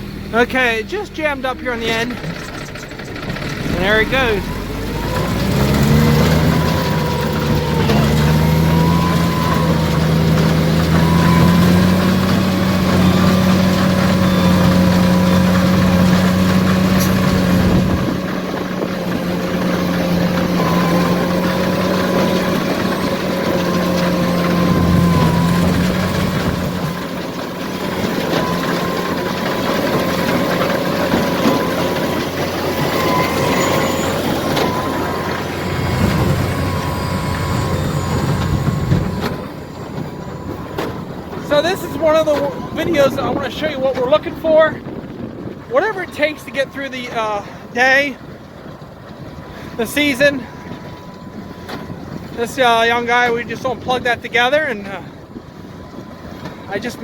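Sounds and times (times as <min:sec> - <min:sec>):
baler machinery whine: 0:00.0 - 0:57.0
tractor engine drone: 0:00.0 - 0:57.0.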